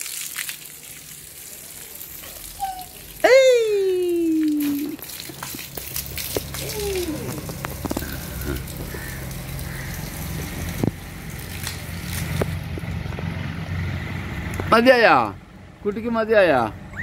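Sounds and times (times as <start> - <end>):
hose water splashing on paving: 0.0 - 14.2.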